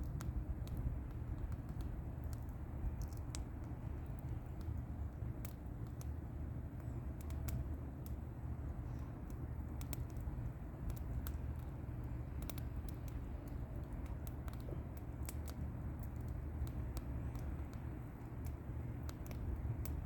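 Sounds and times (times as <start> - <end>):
bonfire crackles and pops: 0.0 - 20.0
fire low rumble: 0.0 - 20.0.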